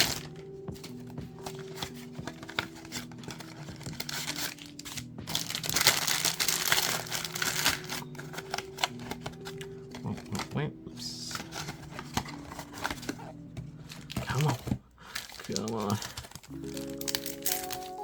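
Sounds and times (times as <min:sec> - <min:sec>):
wrappers crinkling and tearing: 0:00.0 - 0:18.0.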